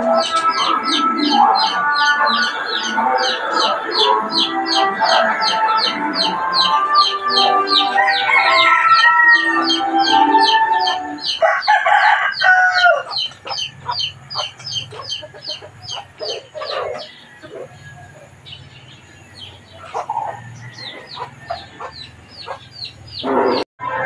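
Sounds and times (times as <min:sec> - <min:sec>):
rooster crowing: 0:00.0 - 0:14.0, 0:15.1 - 0:18.4, 0:19.4 - 0:23.6
chicken clucks: 0:00.0 - 0:23.6.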